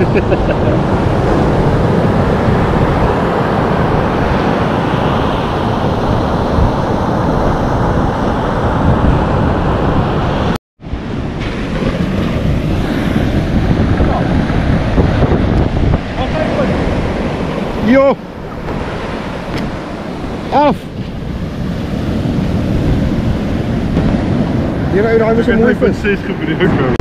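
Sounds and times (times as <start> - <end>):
breaking surf: 0.0 - 27.0
wind buffeting microphone: 0.0 - 27.0.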